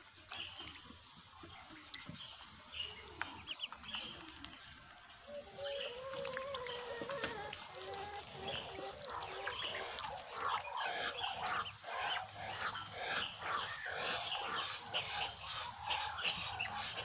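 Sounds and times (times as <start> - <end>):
ducklings peeping: 0.1 - 17.0.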